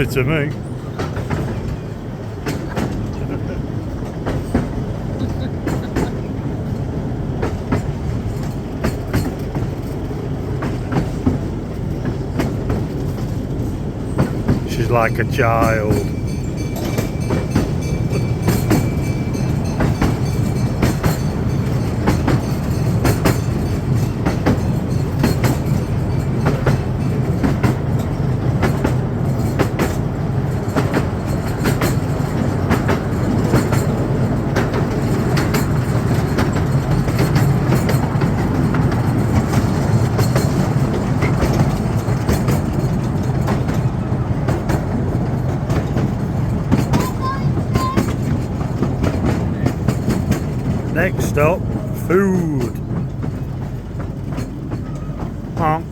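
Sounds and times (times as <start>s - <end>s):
miniature train wheels rumbling: 0.4s - 51.7s
wheels clicking over rail joints: 0.5s - 14.7s, 15.9s - 50.9s, 52.7s - 55.6s.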